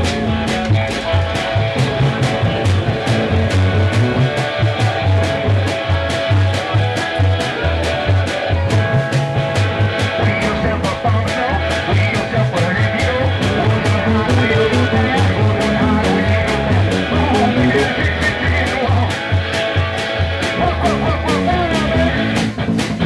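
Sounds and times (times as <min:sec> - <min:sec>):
electric guitars: 0:00.0 - 0:23.0
fast steady drum beat: 0:00.0 - 0:23.0
live band instrumental: 0:00.0 - 0:23.0
upright bass: 0:00.0 - 0:23.0.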